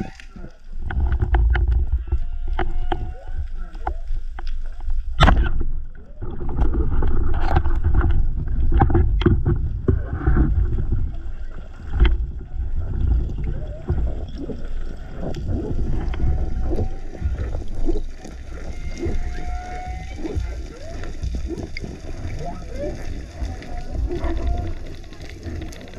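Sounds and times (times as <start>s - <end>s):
underwater rush of moving water: 0.0s - 25.9s.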